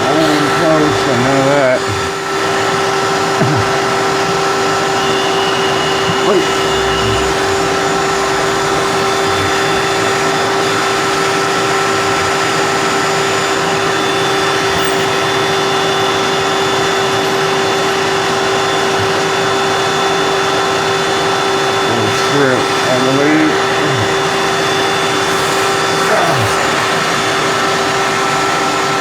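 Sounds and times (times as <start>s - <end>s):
shop vacuum running: 0.0s - 29.0s.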